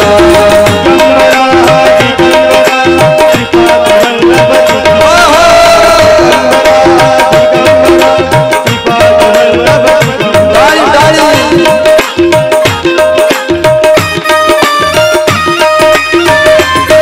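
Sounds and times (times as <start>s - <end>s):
hand drums fast rhythm: 0.0s - 17.0s.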